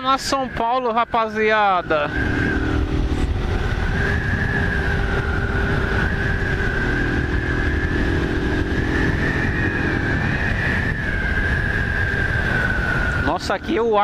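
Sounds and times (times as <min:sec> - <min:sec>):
high whine: 0:00.0 - 0:14.0
motorcycle engine cruising: 0:00.0 - 0:14.0
wind rumble on microphone: 0:00.0 - 0:14.0.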